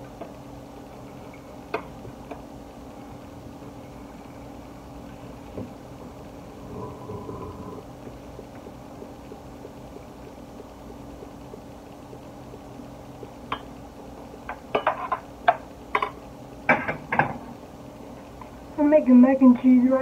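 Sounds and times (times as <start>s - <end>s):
faint steady background noise: 0.0s - 20.0s.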